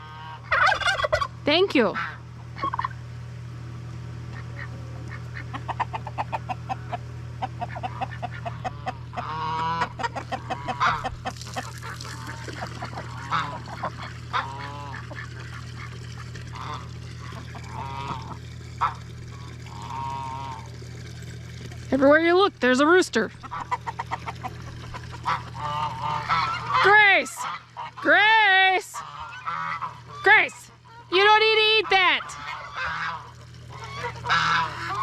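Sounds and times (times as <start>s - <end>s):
waterfowl honking: 0.0s - 3.0s, 4.3s - 20.8s, 23.4s - 28.3s, 28.9s - 35.0s
steady low hum: 0.0s - 35.0s.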